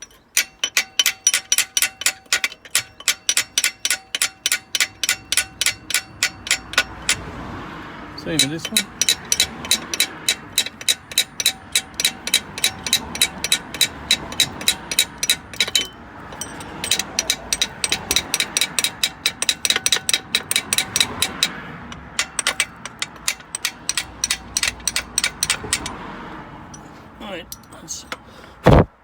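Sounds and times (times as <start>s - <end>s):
hammer tapping on metal: 0.0s - 7.5s, 8.2s - 26.9s.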